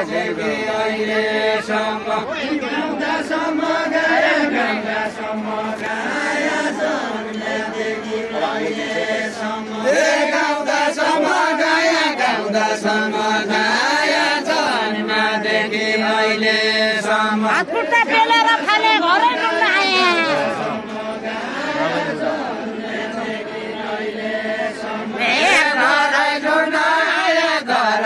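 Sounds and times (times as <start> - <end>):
group singing chanted folk song: 0.0 - 28.0.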